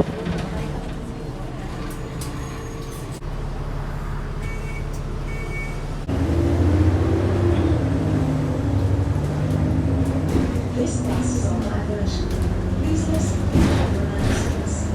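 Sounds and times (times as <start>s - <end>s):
bus engine running: 0.0s - 14.9s.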